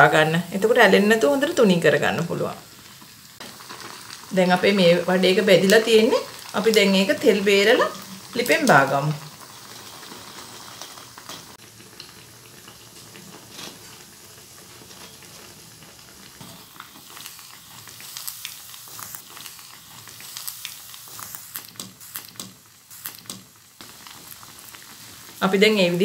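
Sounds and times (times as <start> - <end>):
hot oil sizzling and bubbling: 0.0 - 26.0
crackles and pops: 2.6 - 26.0.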